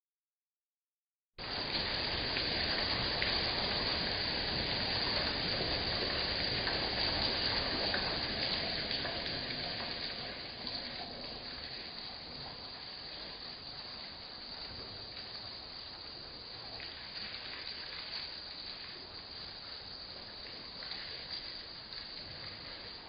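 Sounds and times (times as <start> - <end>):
heavy rain falling: 1.4 - 23.0
raindrop ticks: 1.4 - 23.0.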